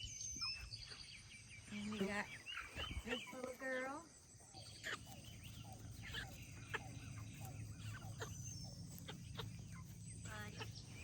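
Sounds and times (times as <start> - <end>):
hens clucking: 1.7 - 11.0.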